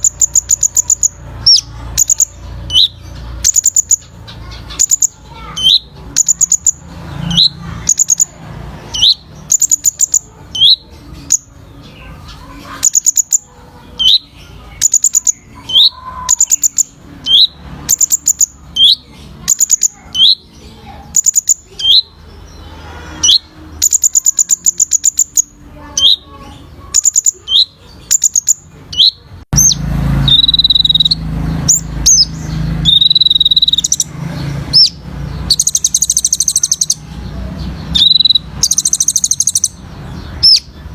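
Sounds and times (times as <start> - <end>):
sunbird singing: 0.0 - 40.9.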